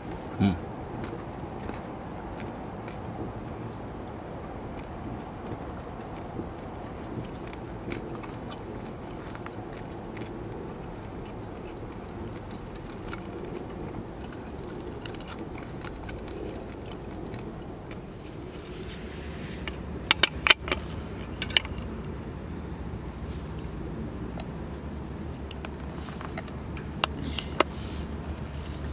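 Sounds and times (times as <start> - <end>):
low background noise: 0.0 - 28.9.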